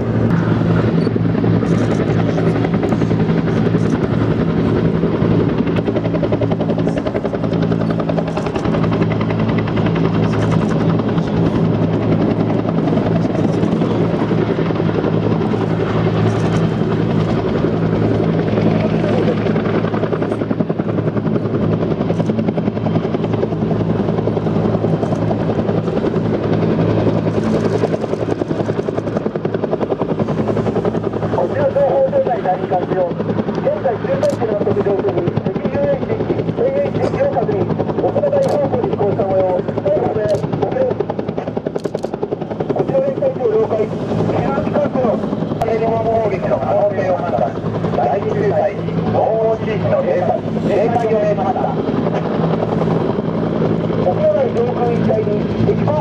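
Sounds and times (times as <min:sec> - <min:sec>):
helicopter rotors and turbines humming: 0:00.0 - 0:56.0.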